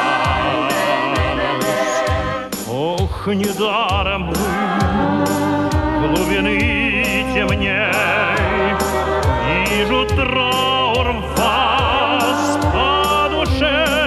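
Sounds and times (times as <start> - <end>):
bass line: 0.0 - 14.0
live band music: 0.0 - 14.0.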